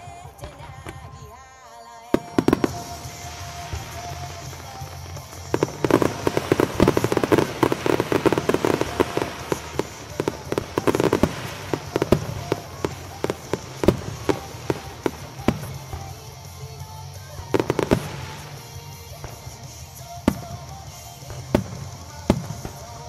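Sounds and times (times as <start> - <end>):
fireworks bangs: 0.0 - 23.0
fireworks popping and crackling: 0.0 - 23.0.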